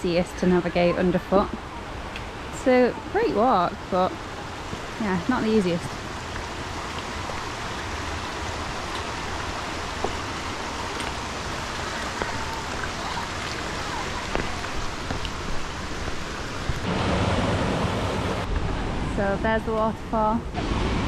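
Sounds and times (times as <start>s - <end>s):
waterfall rushing: 0.4s - 19.2s.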